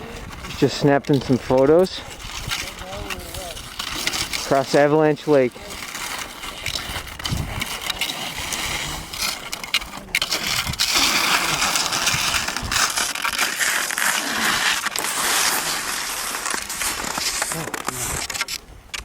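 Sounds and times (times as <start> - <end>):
skis sliding over snow: 0.0 - 19.0.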